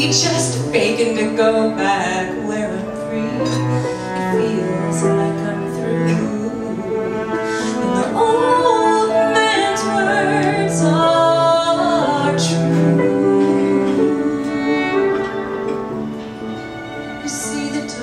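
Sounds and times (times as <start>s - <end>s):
woman singing: 0.0s - 15.3s, 17.2s - 18.0s
double bass: 0.0s - 16.4s
cello: 0.0s - 18.0s
piano: 0.0s - 18.0s
violin: 0.0s - 18.0s.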